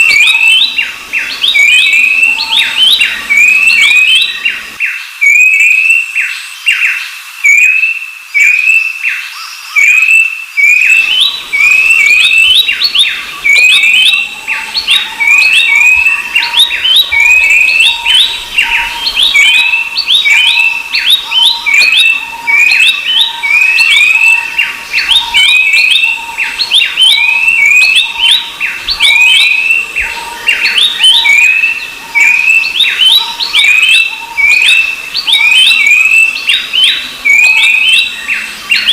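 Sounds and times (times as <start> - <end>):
birds singing whistled notes: 0.0 - 38.9.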